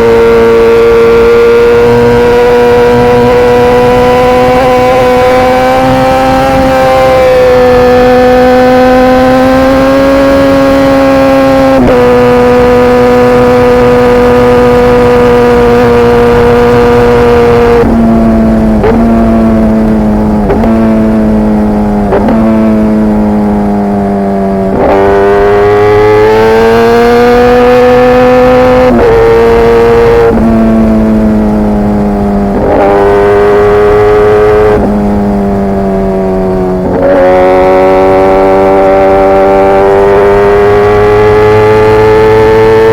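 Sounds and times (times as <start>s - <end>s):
motorcycle engine changing gear: 0.0s - 42.9s.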